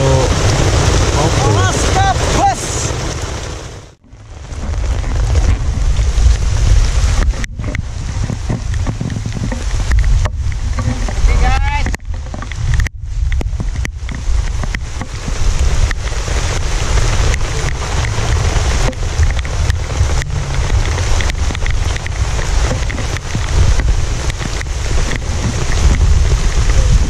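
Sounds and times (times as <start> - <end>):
surf rushing: 0.0 - 12.8, 13.6 - 27.0
wind buffeting microphone: 4.0 - 27.0.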